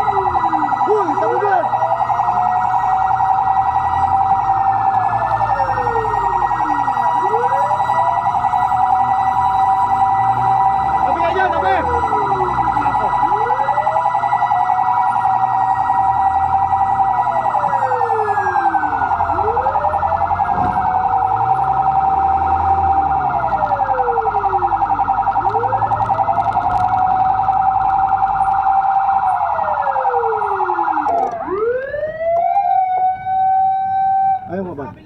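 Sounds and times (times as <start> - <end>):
rapidly warbling siren: 0.0 - 34.5
wailing fire truck siren: 0.0 - 34.8.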